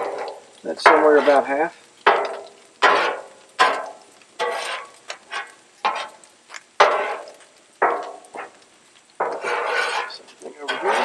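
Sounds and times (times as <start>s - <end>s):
metal spatula scraping griddle: 0.0s - 6.2s, 6.8s - 8.6s, 9.2s - 11.0s.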